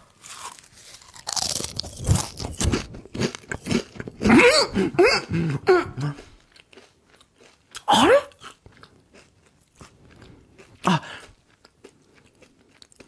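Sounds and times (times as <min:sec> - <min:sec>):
potato chips crunching: 0:00.0 - 0:04.4, 0:06.0 - 0:13.0.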